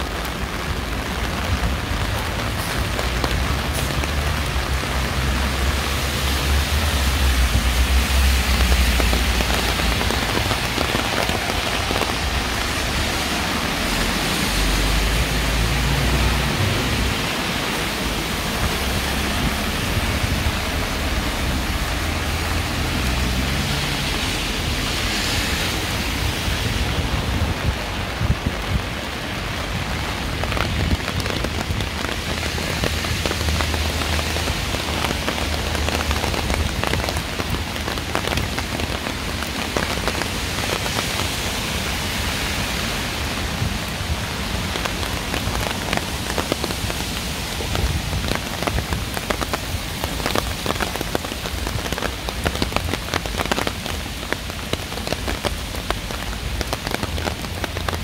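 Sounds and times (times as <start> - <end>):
rain falling and splashing: 0.0 - 58.0.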